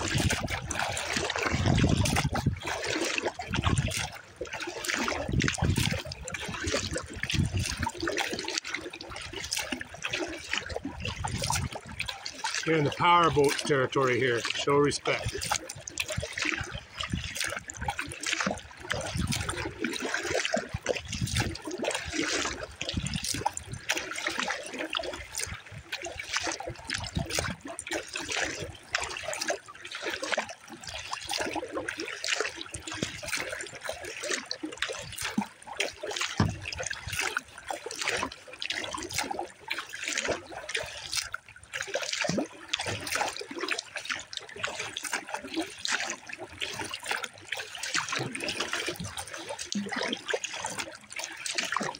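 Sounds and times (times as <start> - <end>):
paddle strokes in water: 0.0 - 51.9
water dripping off paddle: 0.0 - 51.9
waves lapping at hull: 0.0 - 51.9.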